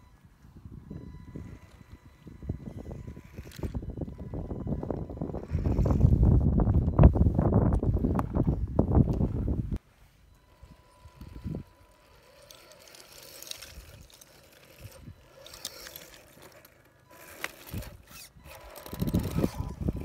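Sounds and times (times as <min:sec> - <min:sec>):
electric motor and gears whining: 0:00.0 - 0:20.0.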